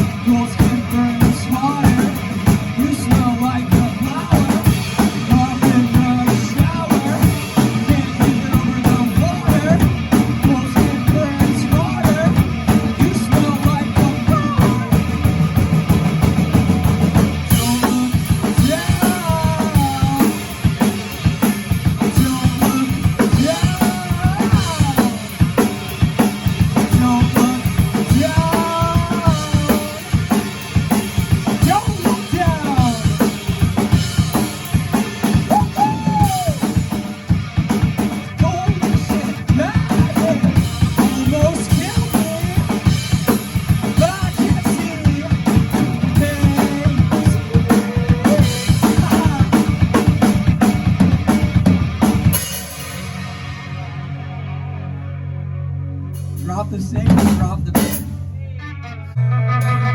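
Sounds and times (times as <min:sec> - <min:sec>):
drum kit beat: 0:00.0 - 0:53.7, 0:56.3 - 0:58.3
rock band playing: 0:00.0 - 0:59.9.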